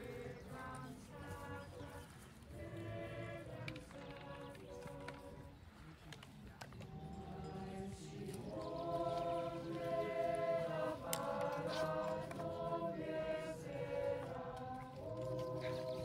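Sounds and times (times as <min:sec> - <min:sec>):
choir singing chords: 0:00.0 - 0:05.6, 0:06.8 - 0:16.0.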